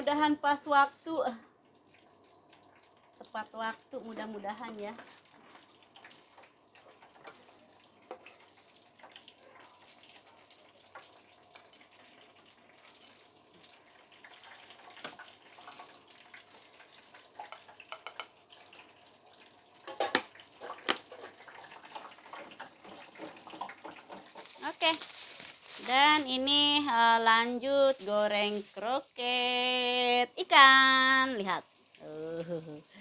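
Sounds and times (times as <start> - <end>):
cooking oil crackling: 0.0 - 33.0.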